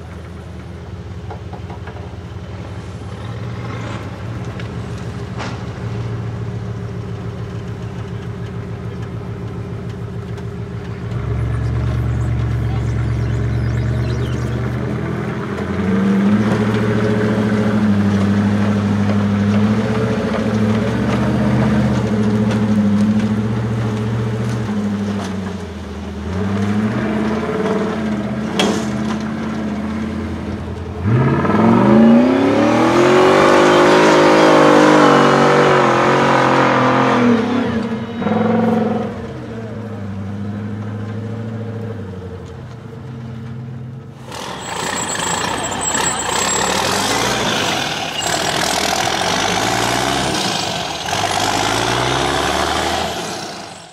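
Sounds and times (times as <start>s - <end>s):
truck engine revving under load: 0.0s - 53.9s.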